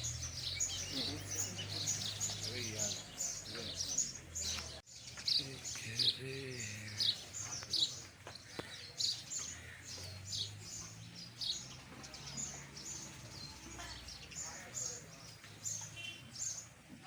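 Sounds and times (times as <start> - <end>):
small bird chirping: 0.0 - 16.8.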